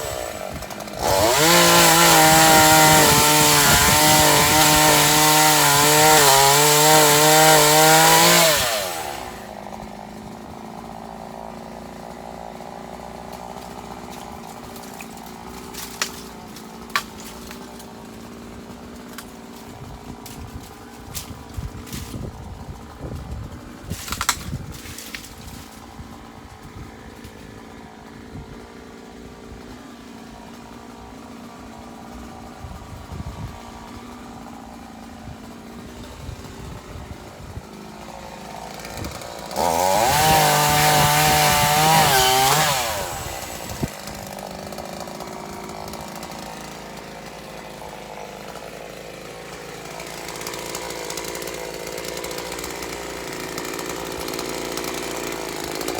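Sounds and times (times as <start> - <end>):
chainsaw running and revving: 0.0 - 55.9.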